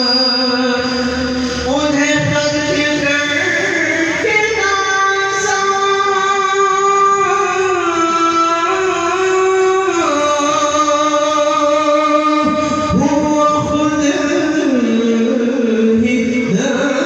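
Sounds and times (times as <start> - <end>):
person singing long notes: 0.0 - 17.0.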